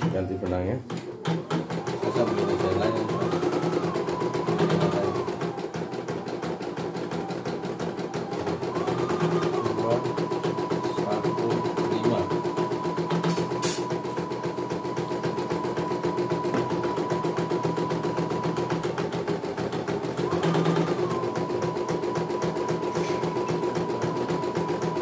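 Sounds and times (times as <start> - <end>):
steady motor hum: 0.0 - 25.0.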